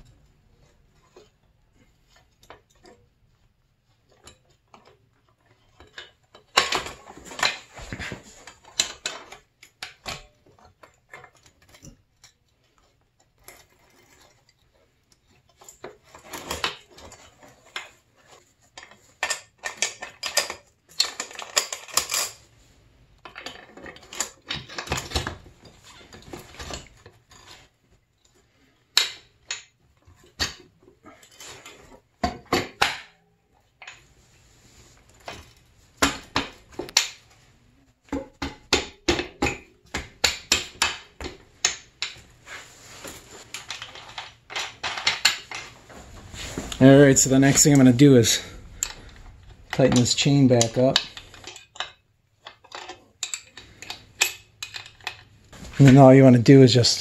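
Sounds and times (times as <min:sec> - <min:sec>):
metal parts clinking and clattering: 0:00.2 - 0:03.1, 0:04.0 - 0:22.5, 0:23.2 - 0:34.2, 0:39.1 - 0:57.0.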